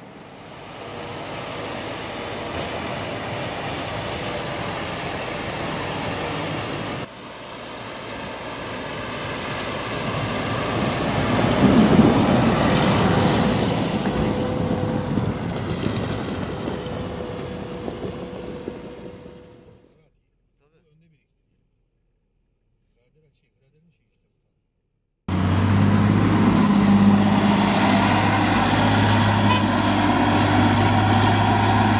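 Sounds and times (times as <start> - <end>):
heavy machinery engines running: 0.0 - 19.8, 25.3 - 31.9.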